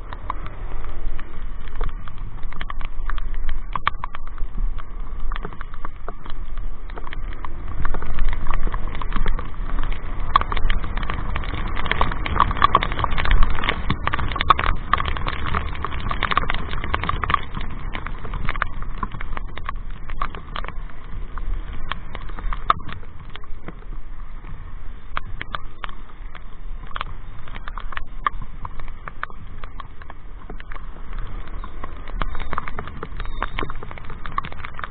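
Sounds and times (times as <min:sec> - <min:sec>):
low riding rumble: 0:00.0 - 0:34.9
rain tapping on microphone: 0:00.0 - 0:34.9.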